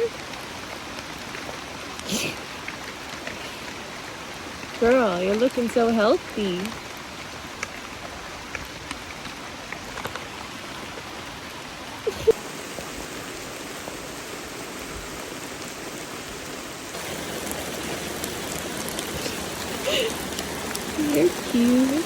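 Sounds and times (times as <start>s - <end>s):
pouring rain: 0.0s - 22.0s.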